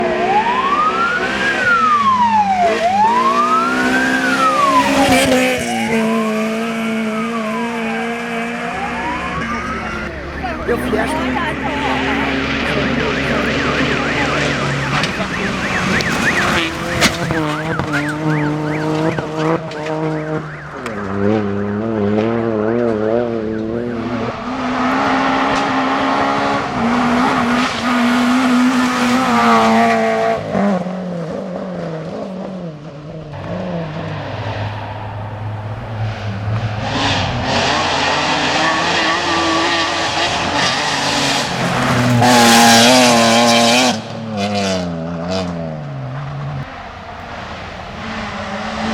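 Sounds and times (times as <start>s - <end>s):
rally car engine revving: 0.0s - 48.9s.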